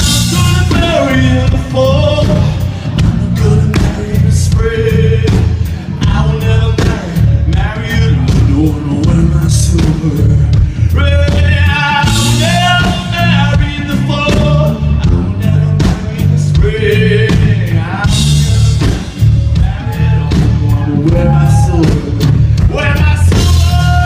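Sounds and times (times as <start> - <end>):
man singing: 0.0 - 24.0
rock band playing: 0.0 - 24.0.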